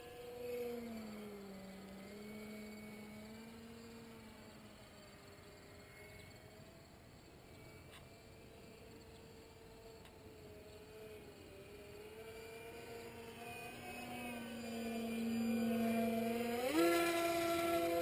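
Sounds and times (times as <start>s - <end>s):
model plane motor whine: 0.0s - 18.0s.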